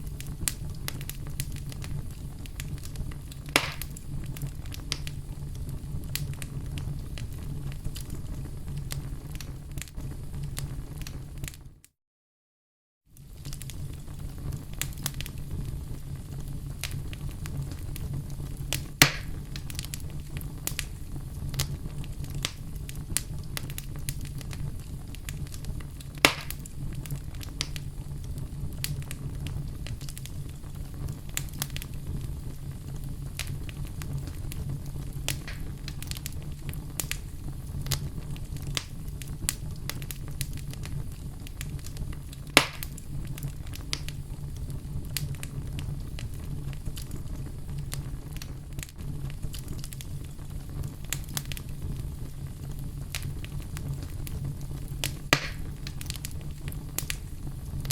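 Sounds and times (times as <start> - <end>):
loud fire pops: 0.0 - 11.7, 13.2 - 57.9
fire crackling in fireplace: 0.0 - 11.9, 13.1 - 57.9
low fire rumble: 0.0 - 11.9, 13.1 - 57.9.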